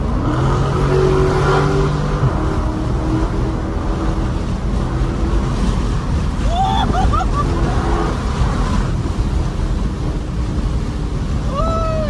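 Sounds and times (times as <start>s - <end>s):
steady engine tone: 0.0s - 12.0s.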